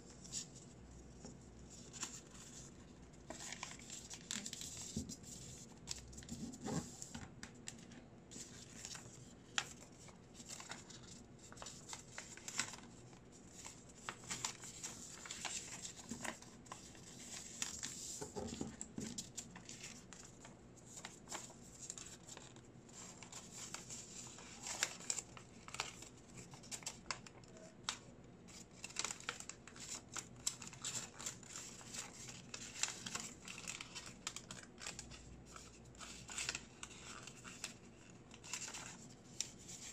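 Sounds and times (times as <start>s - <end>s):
paper rustling and crinkling: 0.1s - 39.9s.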